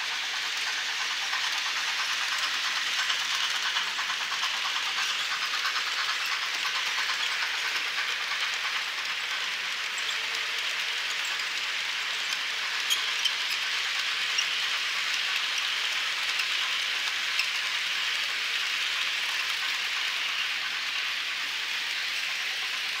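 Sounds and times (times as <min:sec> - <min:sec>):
model train wheels rolling on rail: 0:00.0 - 0:23.0.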